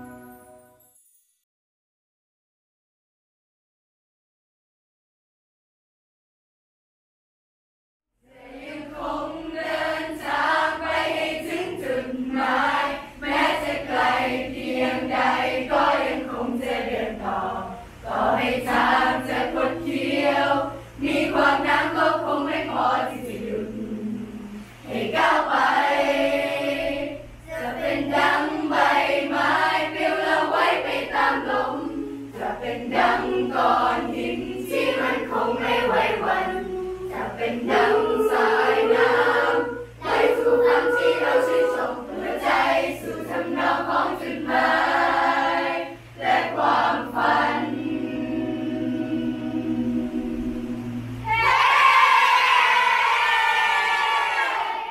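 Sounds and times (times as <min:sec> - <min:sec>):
children's choir singing: 0:00.0 - 0:00.6, 0:08.2 - 0:54.9.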